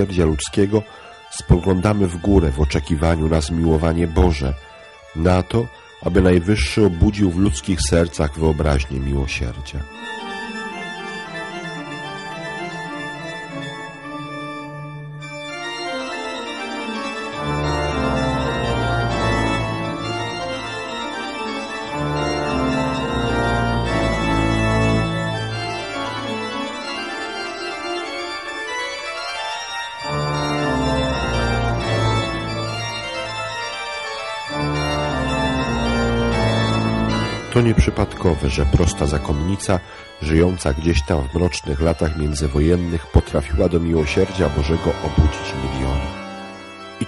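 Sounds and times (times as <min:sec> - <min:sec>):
deep organ bass notes: 0:00.0 - 0:28.1, 0:30.0 - 0:47.0
organ chords: 0:00.0 - 0:47.0.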